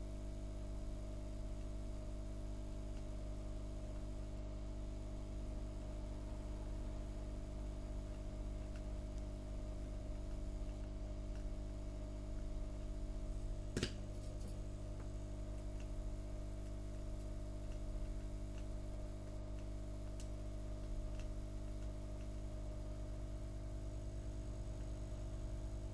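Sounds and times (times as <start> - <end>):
electrical hum: 0.0 - 25.9.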